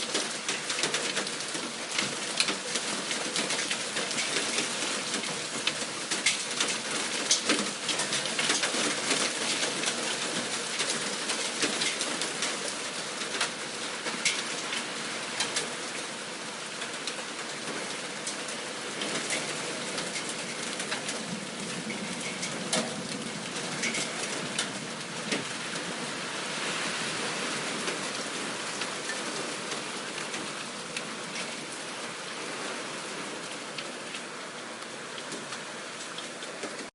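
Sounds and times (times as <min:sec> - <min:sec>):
hail hitting hard surfaces: 0:00.0 - 0:36.9.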